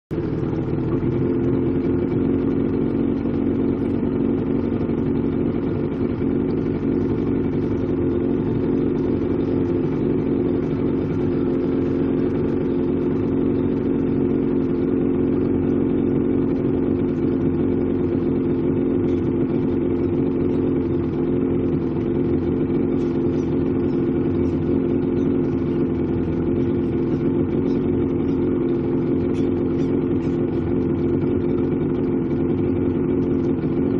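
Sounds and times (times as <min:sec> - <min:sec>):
motorboat engine idling: 0:00.1 - 0:33.9.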